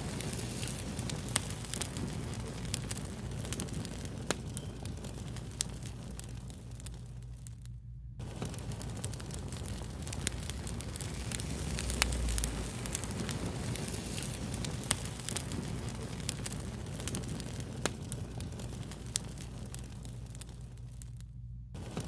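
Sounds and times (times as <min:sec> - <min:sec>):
fire low hiss and rumble: 0:00.0 - 0:22.0
wood fire crackling and popping: 0:00.0 - 0:22.0.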